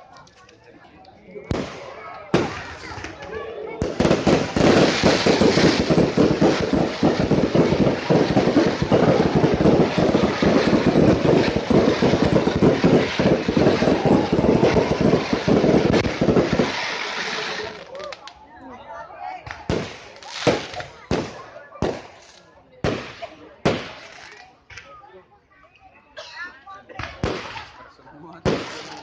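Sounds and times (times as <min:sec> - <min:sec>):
fireworks crackling: 0:00.0 - 0:18.4, 0:19.4 - 0:24.9, 0:27.0 - 0:29.0.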